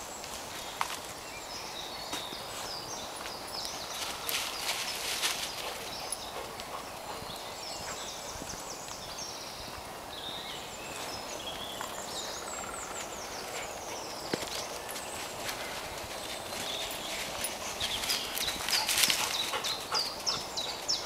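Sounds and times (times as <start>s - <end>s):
birds singing: 0.0s - 21.0s
footsteps on dirt path: 2.0s - 20.8s.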